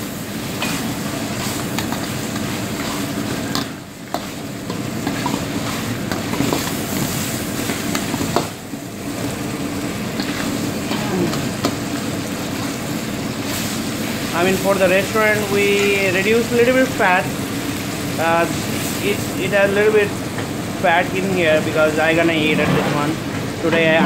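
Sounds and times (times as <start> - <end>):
gravy sizzling in a pan: 0.0 - 24.0.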